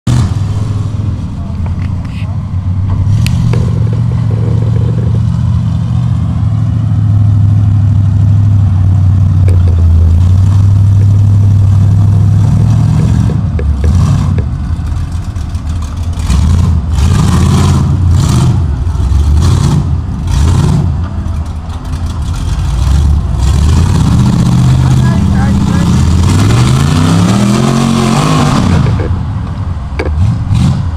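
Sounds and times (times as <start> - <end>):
truck engine revving: 0.0 - 30.9.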